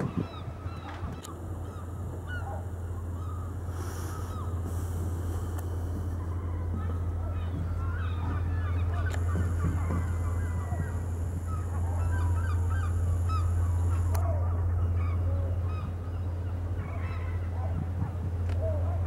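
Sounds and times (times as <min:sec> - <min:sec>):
birds calling: 0:00.0 - 0:19.0
steady low hum: 0:00.0 - 0:19.0.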